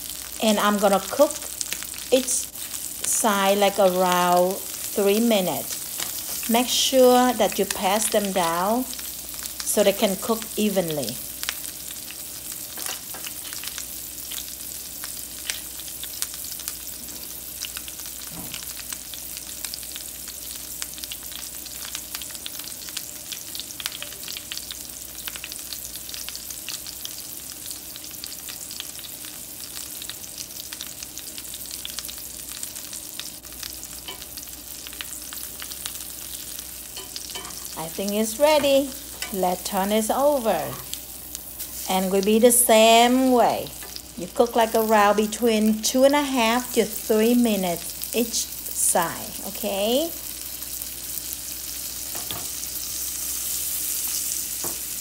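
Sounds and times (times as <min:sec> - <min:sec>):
fish steaks sizzling in skillet: 0:00.0 - 0:55.0.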